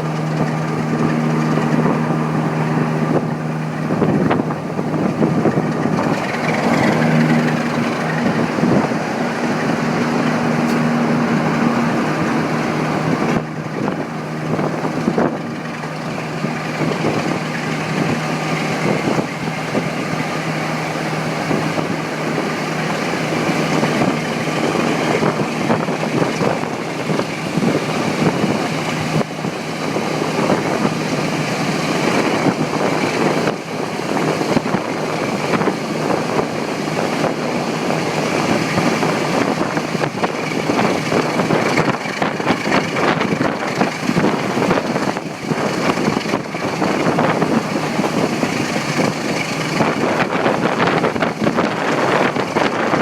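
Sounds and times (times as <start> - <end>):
locomotive engine running: 0.0 - 53.0.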